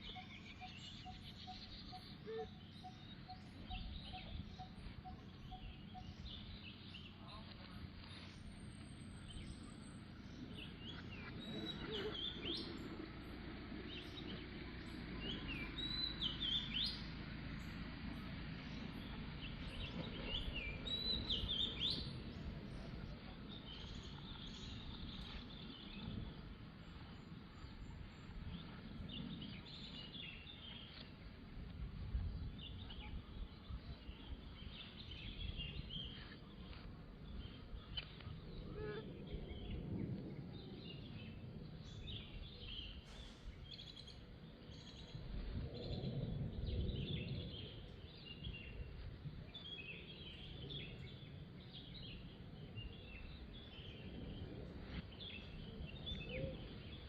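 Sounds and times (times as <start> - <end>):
low rumble: 0.0 - 57.0
small birds chirping: 0.0 - 57.0.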